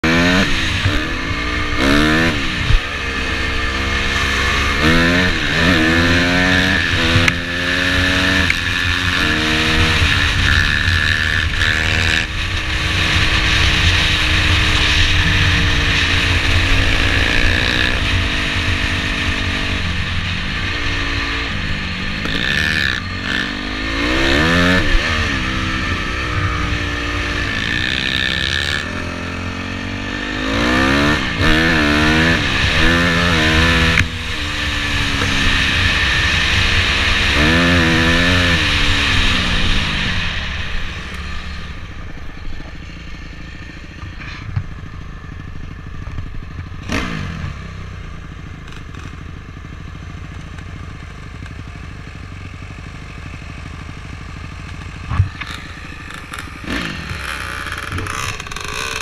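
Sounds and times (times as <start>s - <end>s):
dirt bike engine revving: 0.0s - 50.3s, 52.4s - 59.0s.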